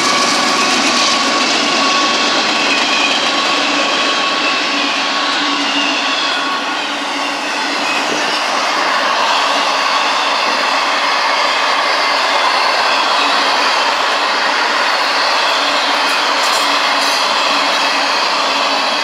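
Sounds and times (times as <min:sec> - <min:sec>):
steel wheels rushing on rail: 0:00.0 - 0:19.0.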